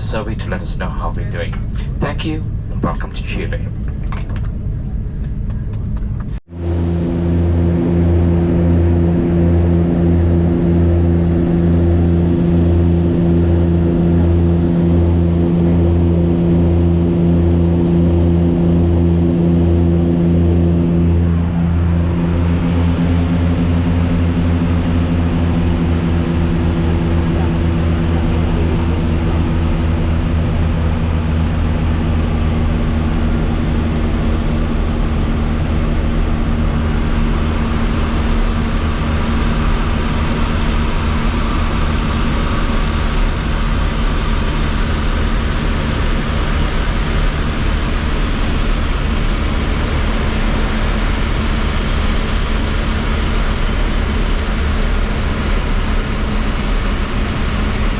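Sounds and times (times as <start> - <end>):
airliner engine hum in cabin: 0.0 - 57.9.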